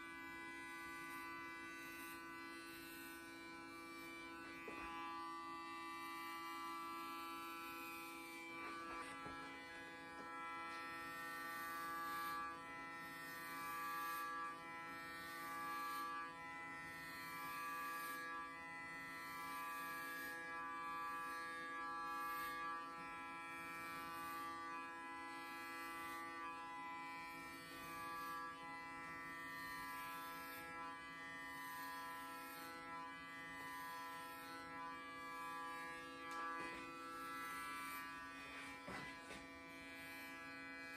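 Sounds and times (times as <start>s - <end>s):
electric hair clippers buzzing: 0.0s - 40.9s.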